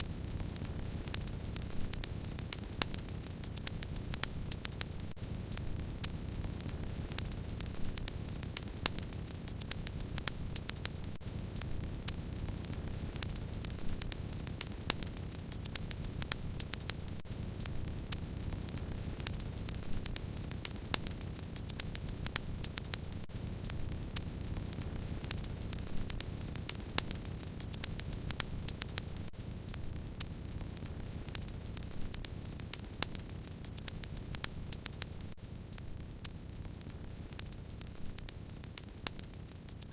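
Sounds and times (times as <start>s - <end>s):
fire popping: 0.0s - 39.9s
low rumble of burning: 0.0s - 39.9s
wood fire crackling: 0.0s - 39.9s.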